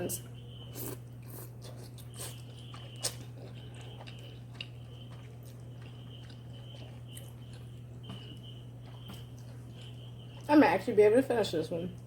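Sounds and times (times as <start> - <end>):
steady low hum: 0.0 - 12.0
person chewing and slurping noodles: 0.7 - 10.5.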